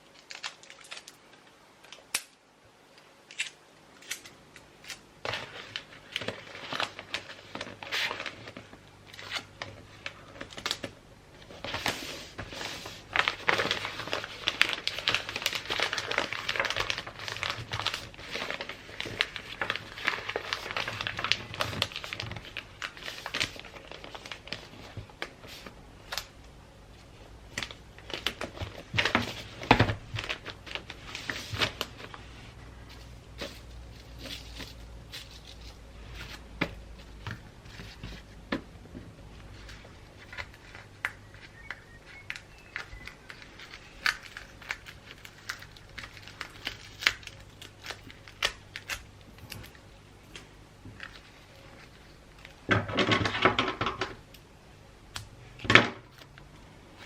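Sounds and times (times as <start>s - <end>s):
wrapping paper crinkling: 0.0s - 1.5s, 3.3s - 26.4s, 27.0s - 38.4s, 39.1s - 53.4s.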